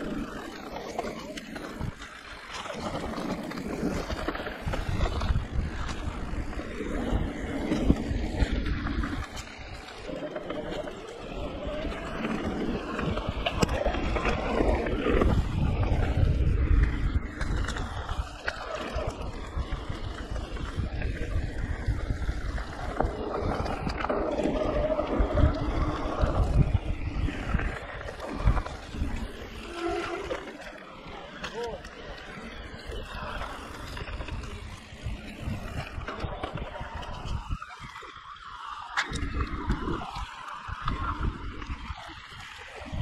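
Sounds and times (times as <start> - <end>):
bike tyres rumbling on dirt: 0.0 - 43.0
wind buffeting microphone: 0.0 - 43.0.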